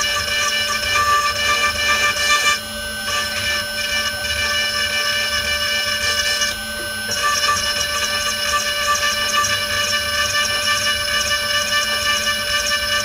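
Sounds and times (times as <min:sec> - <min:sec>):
spindle whining: 0:00.0 - 0:13.0.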